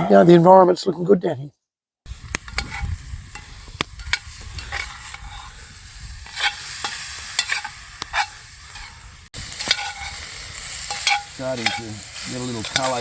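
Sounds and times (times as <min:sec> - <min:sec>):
meat sizzling in a frying pan: 0:02.1 - 0:13.0
utensil clacking and scraping: 0:02.3 - 0:13.0.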